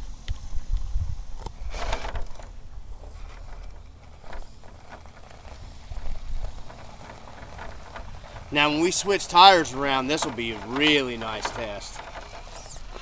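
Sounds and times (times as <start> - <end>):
toy car wheels knocking on rock: 0.8 - 13.0.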